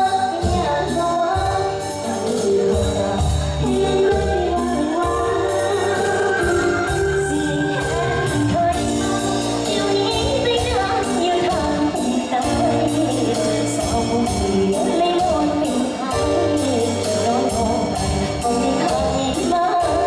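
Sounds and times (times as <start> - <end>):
amplified backing music: 0.0 - 20.0
woman singing into microphone: 0.0 - 20.0.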